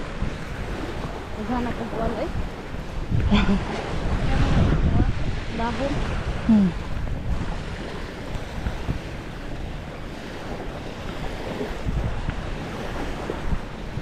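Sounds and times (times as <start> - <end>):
sea surf rushing: 0.0 - 14.0
wind buffeting microphone: 0.0 - 14.0.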